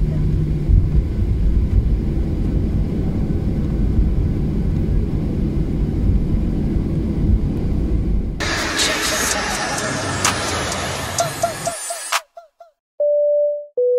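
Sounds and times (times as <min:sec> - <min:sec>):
airliner cabin rumble: 0:00.0 - 0:11.6.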